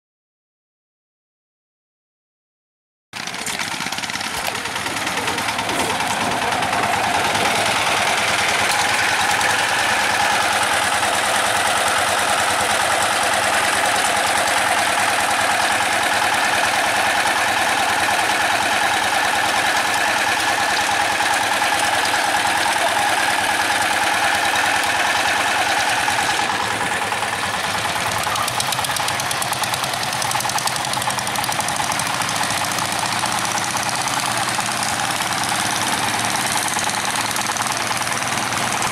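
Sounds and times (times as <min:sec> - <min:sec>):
diesel engines clattering: 0:03.2 - 0:38.9.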